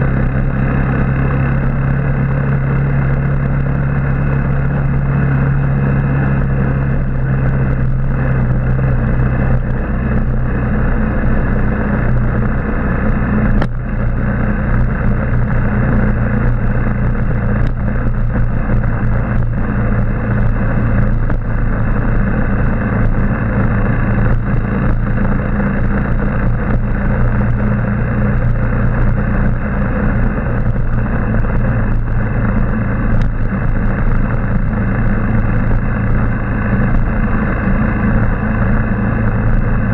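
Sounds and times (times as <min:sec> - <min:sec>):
motorbike engine running: 0:00.0 - 0:39.9
wind and road noise: 0:00.0 - 0:39.9.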